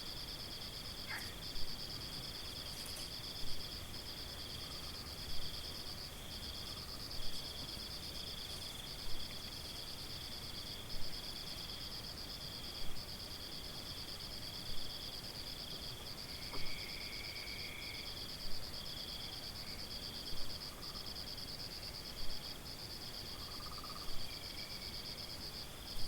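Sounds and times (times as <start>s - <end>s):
insects trilling: 0.0s - 12.9s, 13.9s - 26.0s.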